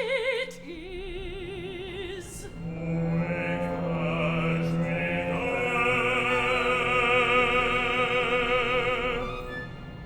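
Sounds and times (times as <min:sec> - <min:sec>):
operatic singing with vibrato: 0:00.0 - 0:10.0.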